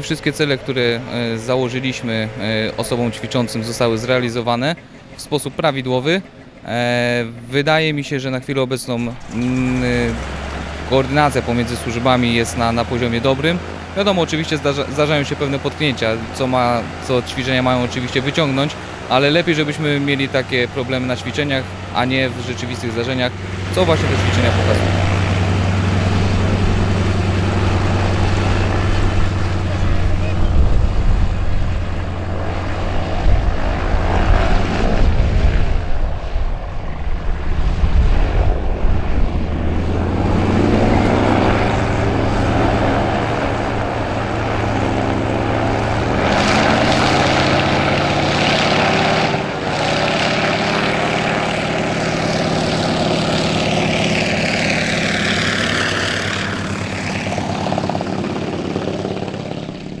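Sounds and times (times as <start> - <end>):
propeller plane engine: 0.0 - 60.0.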